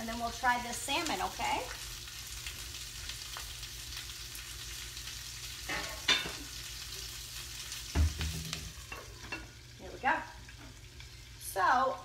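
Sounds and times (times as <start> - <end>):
beans sizzling in a skillet: 0.0 - 12.0.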